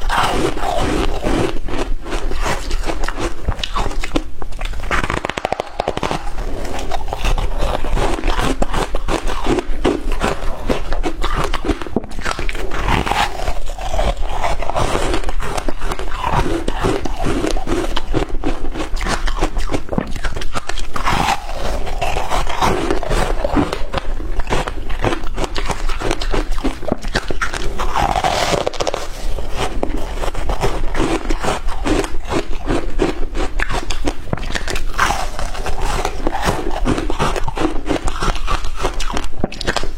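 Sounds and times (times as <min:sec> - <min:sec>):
crunching and chewing shaved ice: 0:00.0 - 0:39.9.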